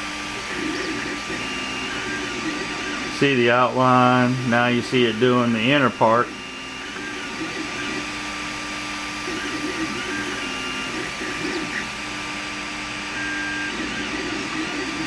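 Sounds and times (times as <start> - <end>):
machine whirring: 0.0 - 15.0
stepper motors humming: 0.0 - 15.0.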